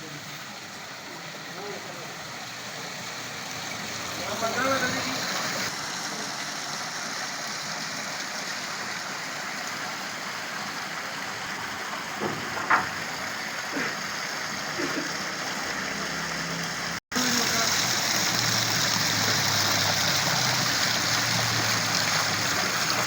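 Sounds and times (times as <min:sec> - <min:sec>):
fountain water splashing: 0:00.0 - 0:23.0.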